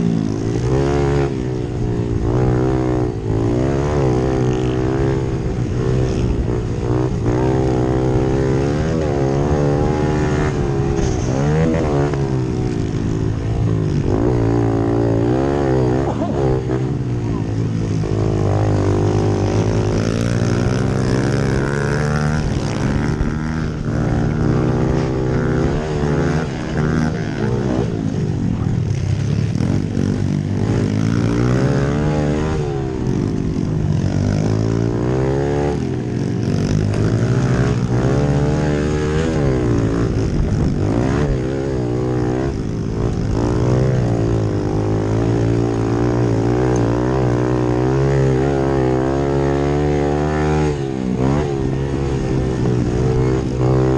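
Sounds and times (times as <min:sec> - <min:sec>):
pit bike engines revving: 0:00.0 - 0:53.9
steady engine drone: 0:00.0 - 0:53.9.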